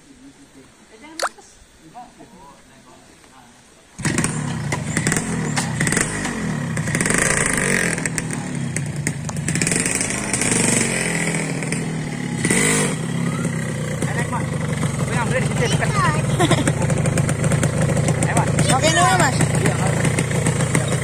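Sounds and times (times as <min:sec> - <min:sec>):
motorcycle engine revving: 0:04.0 - 0:21.0.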